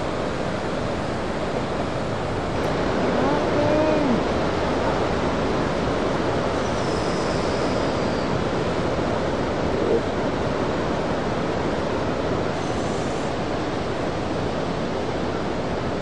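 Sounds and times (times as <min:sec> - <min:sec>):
heavy ocean waves breaking: 0:00.0 - 0:16.0.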